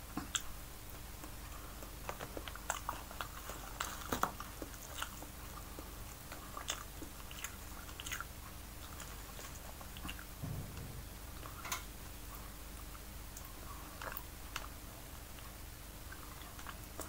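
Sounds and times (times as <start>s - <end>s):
person chewing food: 0.1s - 10.3s, 12.3s - 17.0s.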